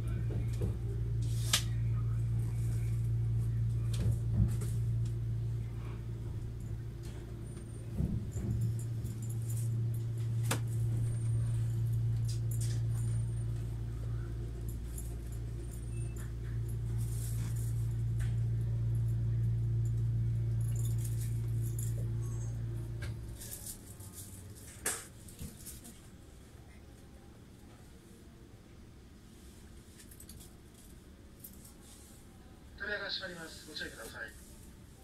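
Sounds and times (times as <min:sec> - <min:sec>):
train cabin hum and rumble: 0:00.0 - 0:35.0.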